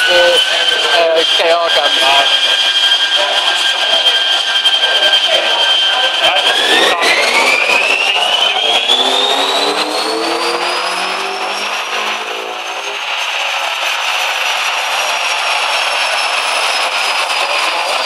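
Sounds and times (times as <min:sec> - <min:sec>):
car engine revving: 0:00.0 - 0:18.0
high whine of rollers: 0:00.0 - 0:18.0.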